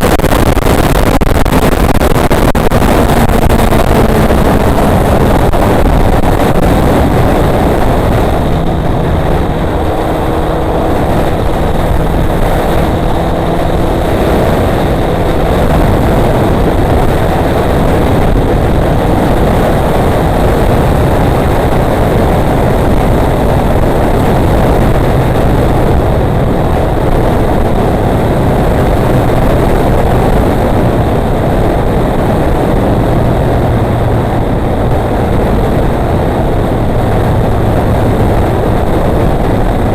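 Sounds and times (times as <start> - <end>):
motorcycle engine under load: 0.0 - 39.9
rush of air and road noise: 0.0 - 39.9.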